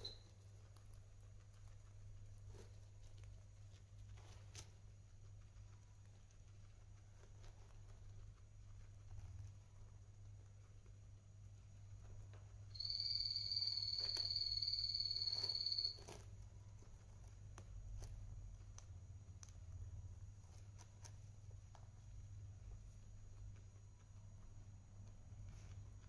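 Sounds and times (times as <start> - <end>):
guinea pig chewing hay: 0.0 - 26.0.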